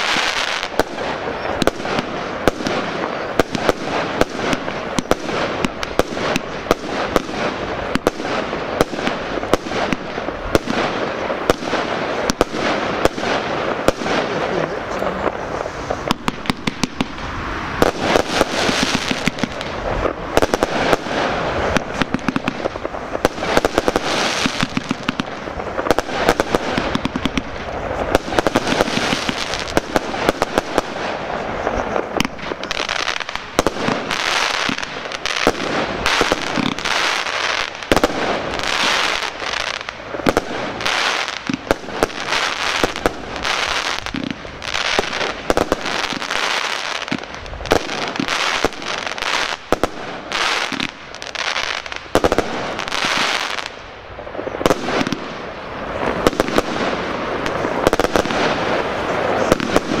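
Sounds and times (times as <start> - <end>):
fireworks bangs: 0.0 - 60.0.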